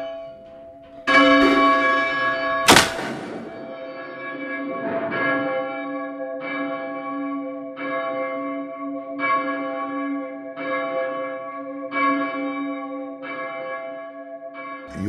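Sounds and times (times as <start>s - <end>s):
church bell ringing: 0.0s - 15.0s.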